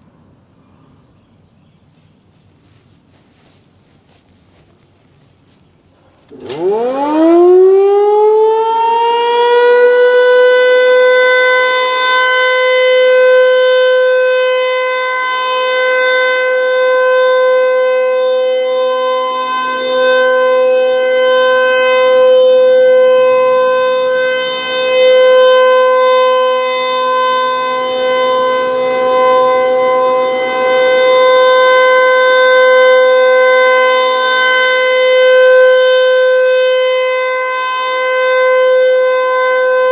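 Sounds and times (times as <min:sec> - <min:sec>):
warning siren steady tone: 0:02.6 - 0:05.3, 0:05.9 - 0:39.9.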